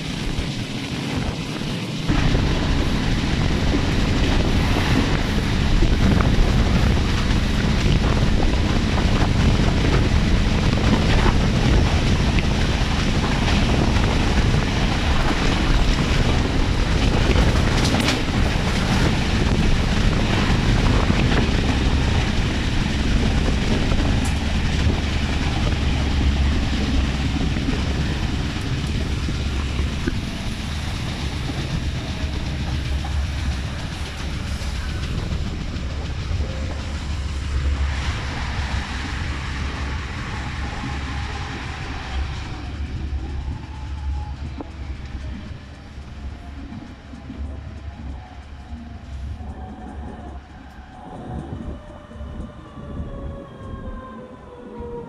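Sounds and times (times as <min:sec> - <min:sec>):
train wheel and rail rumble: 0:00.0 - 0:55.0
wind buffeting microphone: 0:00.0 - 0:55.0.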